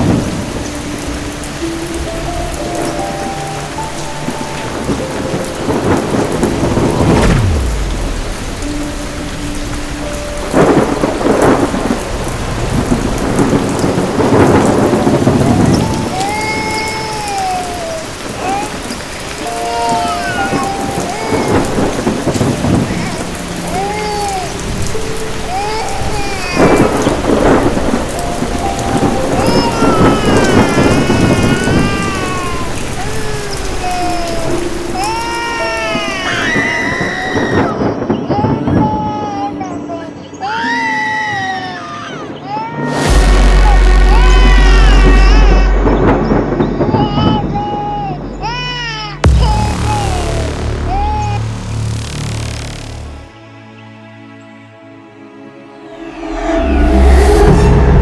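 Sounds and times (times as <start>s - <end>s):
thunder rolling: 0.0s - 39.2s, 42.9s - 53.3s, 55.9s - 58.0s
heavy rain: 0.0s - 53.6s, 55.6s - 58.0s.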